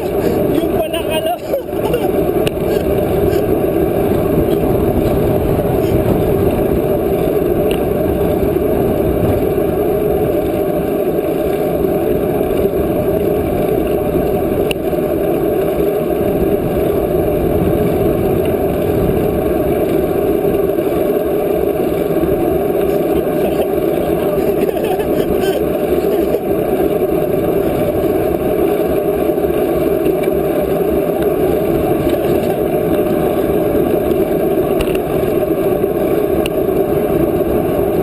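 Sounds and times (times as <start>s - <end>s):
bicycle riding hiss: 0.0s - 38.0s
wind rumble on microphone: 0.0s - 38.0s.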